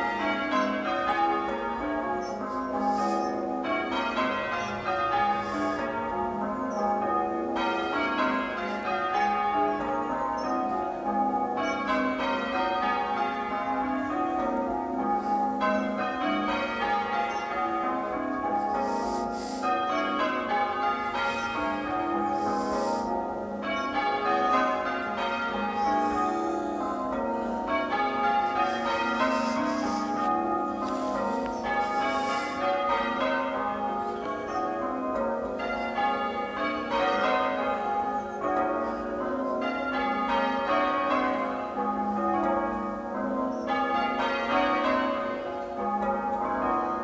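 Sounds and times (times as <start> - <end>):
church bells change ringing: 0.0 - 47.0.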